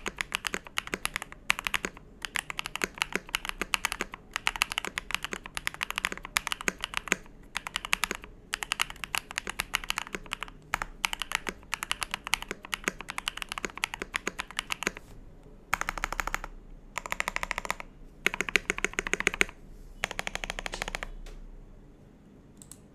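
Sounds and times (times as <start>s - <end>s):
mechanical keyboard typing: 0.0s - 15.0s, 15.7s - 21.2s.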